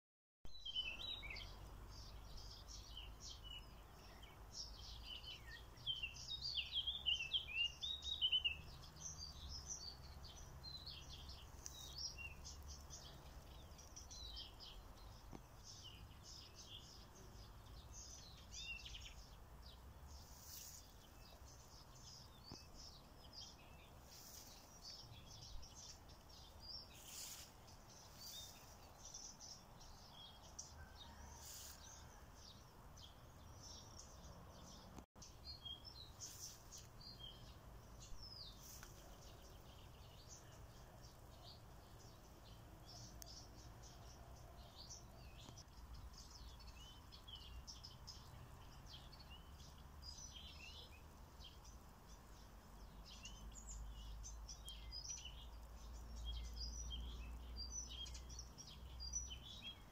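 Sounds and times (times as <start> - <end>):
songbirds chirping and singing: 0.5 - 59.9.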